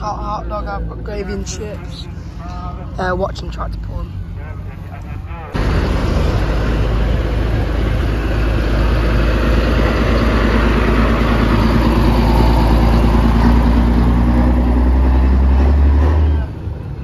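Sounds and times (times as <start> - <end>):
truck diesel engine passing: 0.0 - 17.0.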